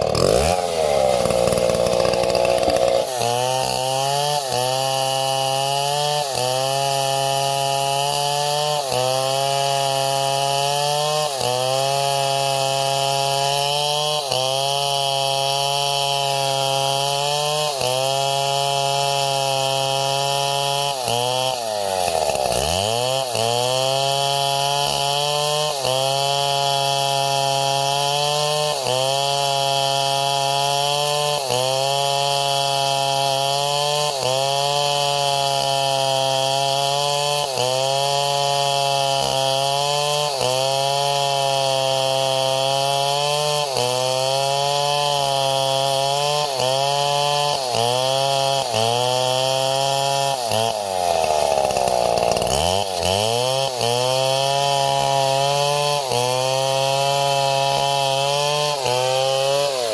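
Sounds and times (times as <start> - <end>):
chainsaw running under load: 0.0 - 59.9.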